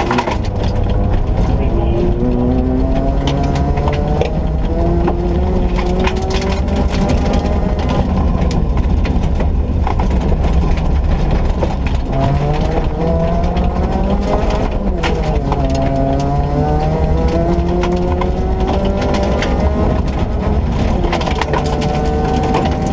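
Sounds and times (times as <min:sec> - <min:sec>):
heavy rumble: 0:00.0 - 0:22.9
knocks and rattles: 0:00.0 - 0:22.9
rally car engine revving: 0:00.0 - 0:22.9.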